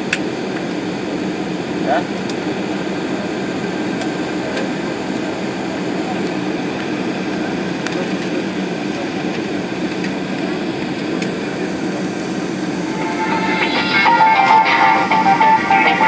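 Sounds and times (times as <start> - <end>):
air conditioning and engine hum: 0.0 - 13.0.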